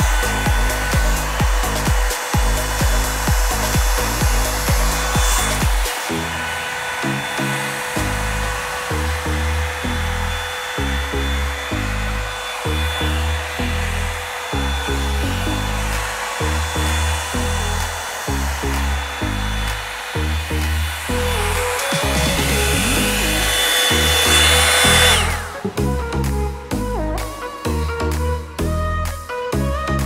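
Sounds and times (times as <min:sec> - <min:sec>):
background music with bass line: 0:00.0 - 0:30.0
hair dryer blowing and whining: 0:00.0 - 0:30.0.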